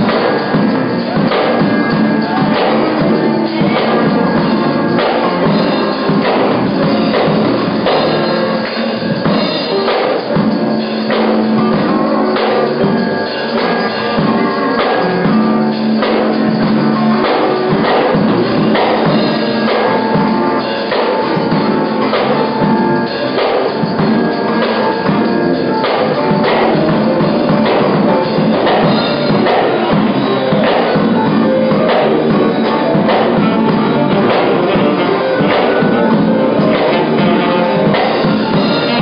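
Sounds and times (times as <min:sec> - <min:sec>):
drum kit beat: 0:00.0 - 0:39.0
live band playing: 0:00.0 - 0:39.0.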